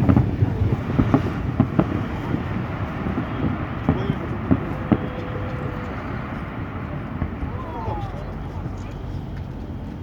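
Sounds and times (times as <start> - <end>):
fireworks bangs: 0.0 - 10.0
low rumble: 0.0 - 10.0.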